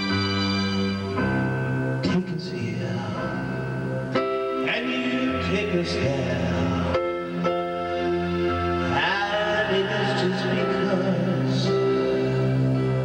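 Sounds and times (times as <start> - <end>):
electronic keyboard chords: 0.0 - 13.0.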